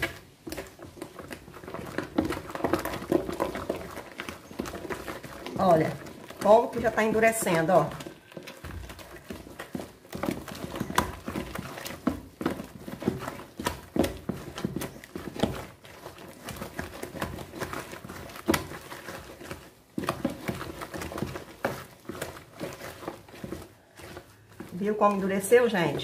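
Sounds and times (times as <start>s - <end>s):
wooden spoon scraping plastic bowl: 0.0s - 26.0s.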